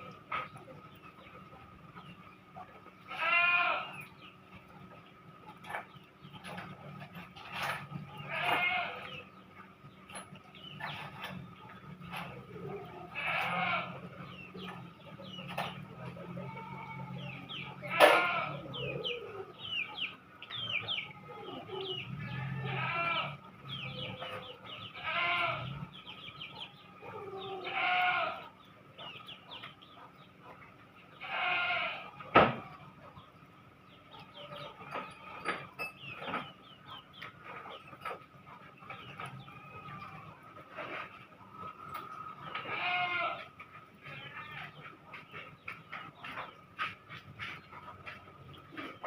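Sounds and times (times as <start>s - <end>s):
farm animals calling: 0.0s - 49.0s.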